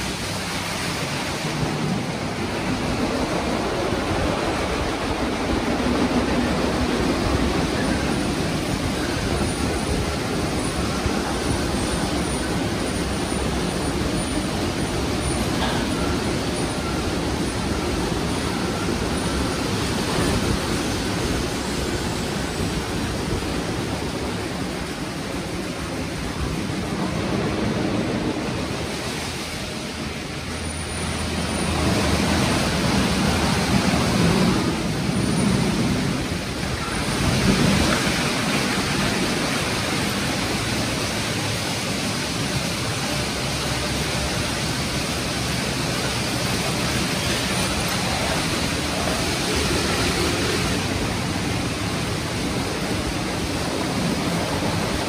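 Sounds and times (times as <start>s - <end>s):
car wash brushes and water spray: 0.0s - 55.0s.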